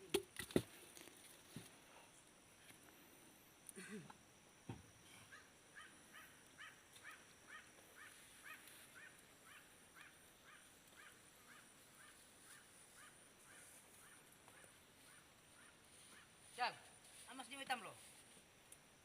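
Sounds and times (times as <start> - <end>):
steady high-pitched whine: 0.0 - 19.0.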